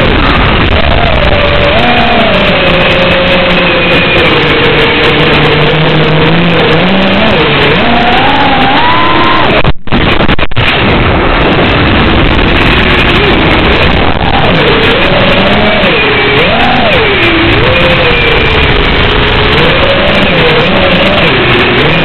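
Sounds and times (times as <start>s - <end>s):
quadcopter motors whining: 0.0s - 9.6s, 11.4s - 22.0s
radio static: 0.0s - 22.0s.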